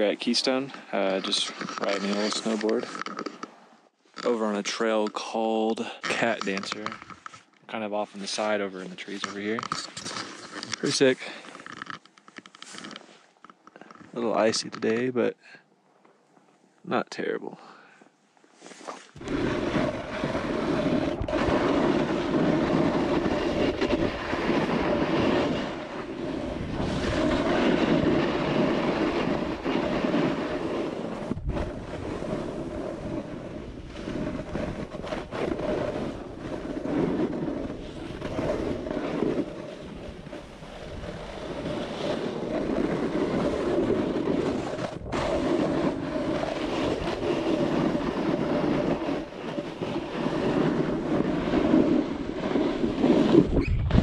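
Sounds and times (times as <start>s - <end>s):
snowboard scraping over icy snow: 0.0s - 3.4s, 4.2s - 7.0s, 7.7s - 11.6s, 18.6s - 54.0s.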